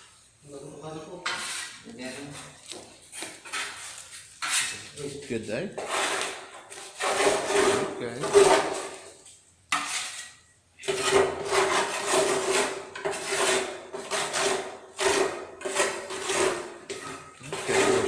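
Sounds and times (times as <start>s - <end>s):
rasping scraping strokes: 1.2s - 18.0s.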